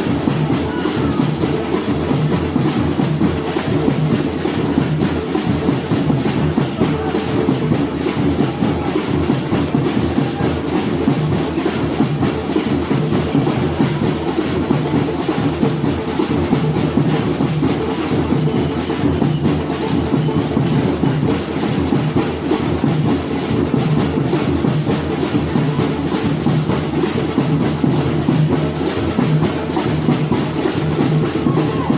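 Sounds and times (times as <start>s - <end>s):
samba drum ensemble: 0.0s - 31.9s.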